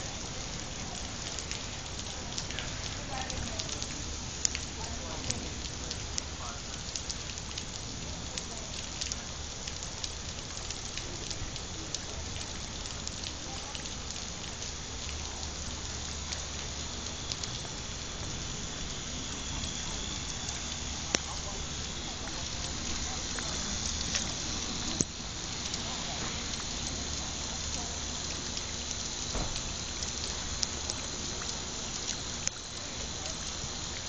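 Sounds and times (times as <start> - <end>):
constant low rumble: 0.0 - 34.0
raindrops ticking on hard surface: 0.0 - 34.0
steady rain: 0.0 - 34.0.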